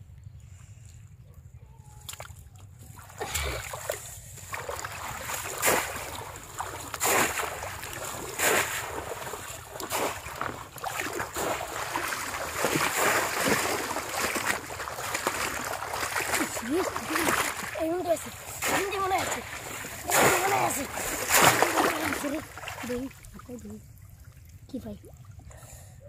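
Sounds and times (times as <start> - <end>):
water splashing: 2.1 - 25.4.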